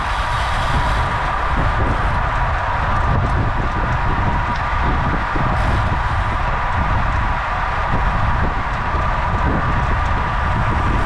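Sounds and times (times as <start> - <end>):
constant hum: 0.0 - 11.0
wind buffeting microphone: 0.0 - 11.0.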